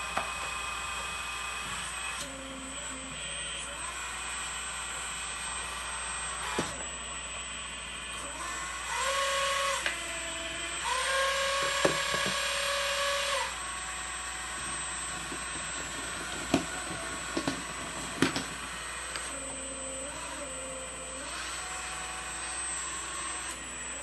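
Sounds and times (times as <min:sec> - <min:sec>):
motor whine sweeping up: 0:00.0 - 0:24.0
small electric motors whining: 0:00.0 - 0:24.0.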